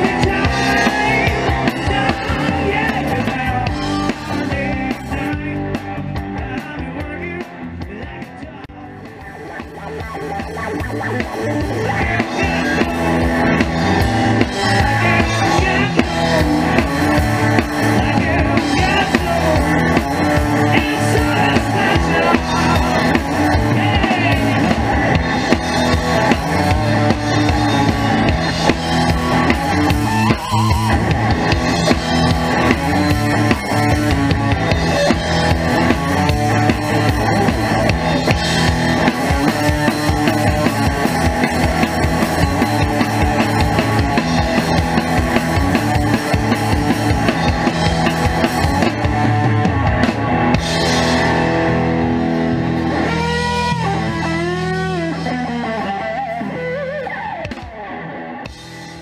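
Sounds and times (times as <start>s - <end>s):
loud drums: 0.0s - 59.0s
rock band playing: 0.0s - 59.0s.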